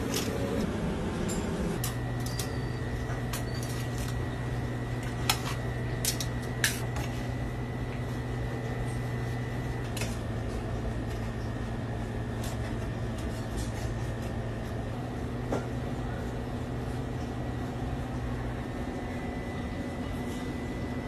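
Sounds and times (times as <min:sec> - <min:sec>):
kitchen machine hum: 0:00.0 - 0:21.0.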